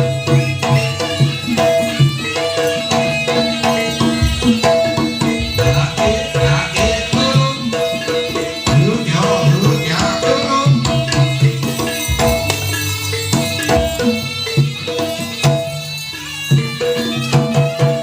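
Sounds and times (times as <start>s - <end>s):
ringing held tones: 0.0s - 17.4s
hand drums beating: 0.0s - 18.0s.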